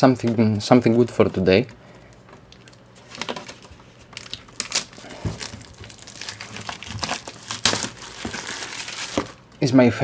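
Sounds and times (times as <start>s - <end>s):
plastic packaging crinkling: 0.8s - 9.5s.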